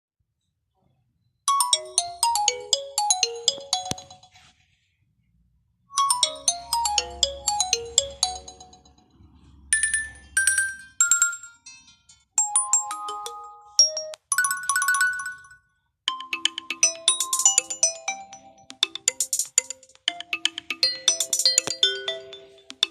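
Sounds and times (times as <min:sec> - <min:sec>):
electronic phone ringtone melodies: 0:01.5 - 0:04.6, 0:05.9 - 0:22.9.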